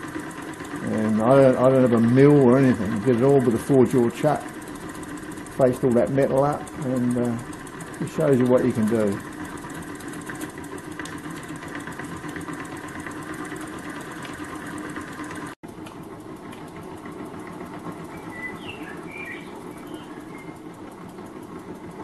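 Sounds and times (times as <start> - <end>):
small steam engine running: 0.0 - 22.0.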